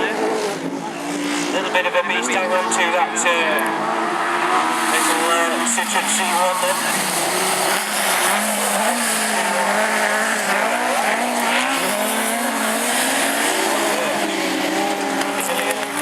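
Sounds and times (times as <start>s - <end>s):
race car engines revving: 0.0s - 16.0s.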